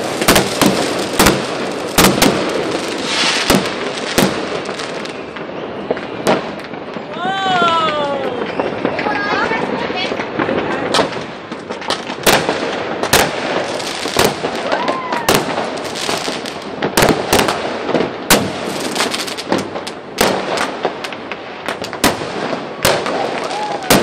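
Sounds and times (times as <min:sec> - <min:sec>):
firecrackers crackling: 0:00.0 - 0:24.0
fireworks bangs: 0:00.0 - 0:24.0.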